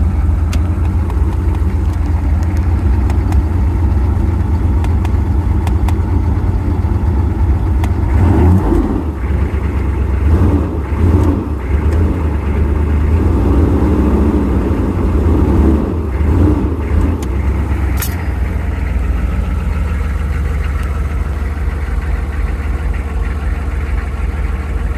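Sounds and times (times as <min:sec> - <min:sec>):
engine idling unevenly: 0:00.0 - 0:24.9.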